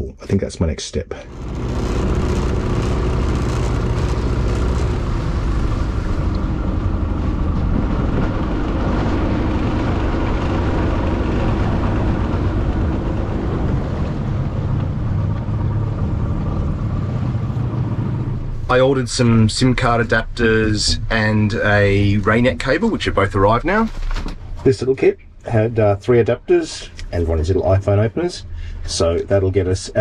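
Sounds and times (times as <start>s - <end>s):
engine running steadily: 1.2s - 25.9s.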